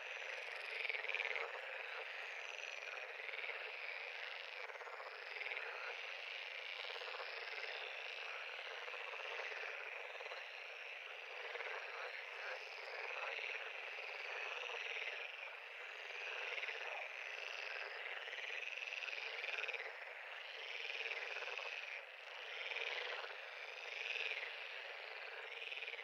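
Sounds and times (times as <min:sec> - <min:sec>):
chorus of frogs calling: 0:00.0 - 0:26.0.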